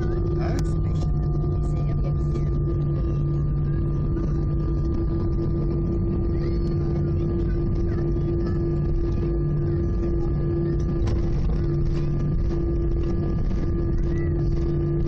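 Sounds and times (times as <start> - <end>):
faint high whine: 0.0 - 15.0
jet engine drone in cabin: 0.0 - 15.0.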